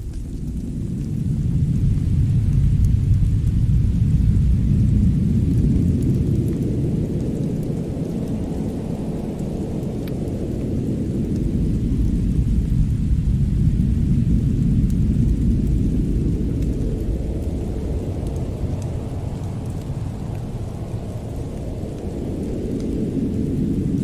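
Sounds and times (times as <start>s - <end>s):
deep rumble: 0.0s - 24.0s
faint crackles: 0.0s - 24.0s.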